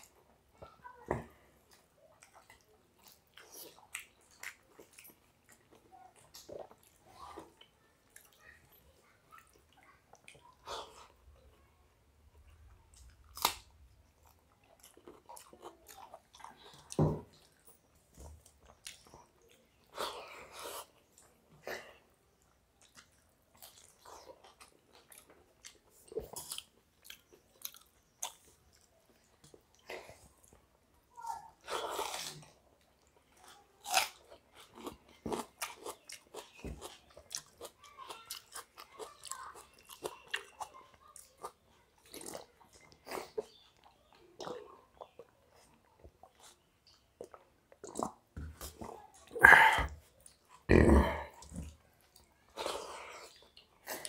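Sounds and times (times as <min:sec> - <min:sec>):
people chewing and crunching food: 0:00.0 - 0:54.0.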